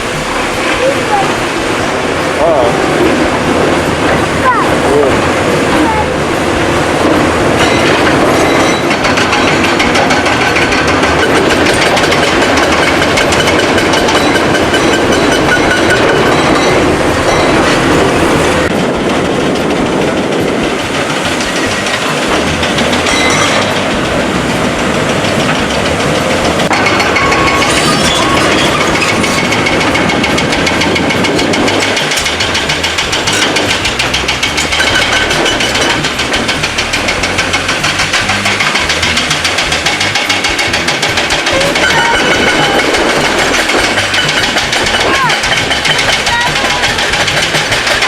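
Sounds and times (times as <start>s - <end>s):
heavy machinery rattling: 0.0s - 48.0s.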